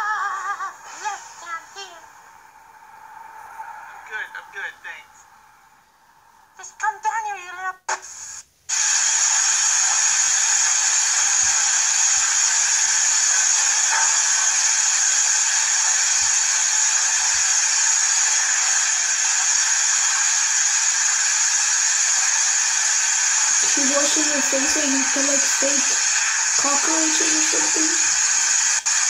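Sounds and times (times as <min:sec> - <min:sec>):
loud steady hiss: 0:00.0 - 0:07.2, 0:07.9 - 0:29.0.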